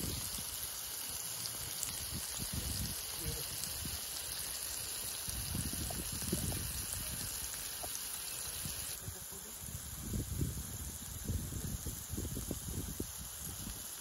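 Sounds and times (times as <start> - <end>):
burgers sizzling on griddle: 0.0 - 14.0.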